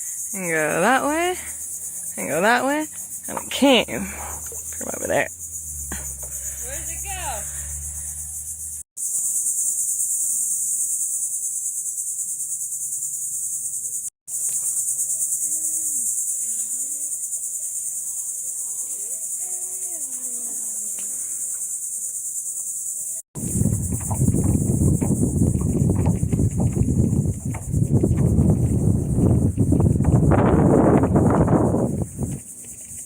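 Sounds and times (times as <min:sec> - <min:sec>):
insects buzzing: 0:00.0 - 0:33.0.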